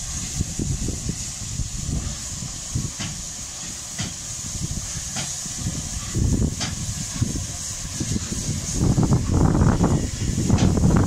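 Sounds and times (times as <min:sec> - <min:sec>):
locomotive exhaust beats: 0:00.0 - 0:11.0
steam locomotive hissing: 0:00.0 - 0:11.0.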